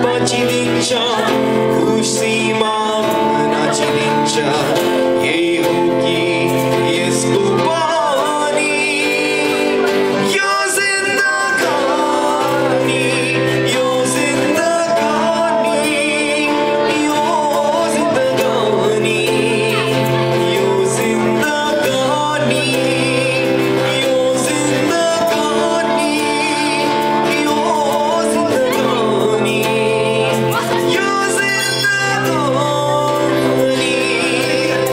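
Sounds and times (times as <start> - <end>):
acoustic guitar strumming: 0.0 - 34.9
man singing: 0.0 - 34.9.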